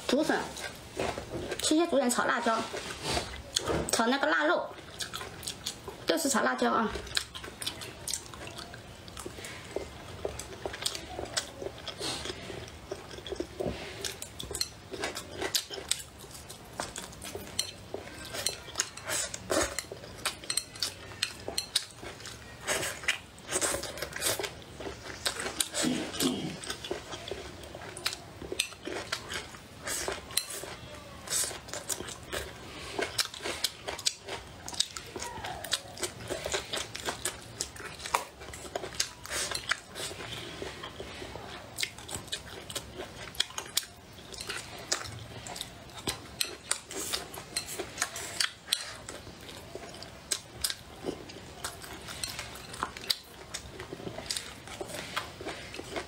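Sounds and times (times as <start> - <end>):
chewing food: 0.0 - 56.0.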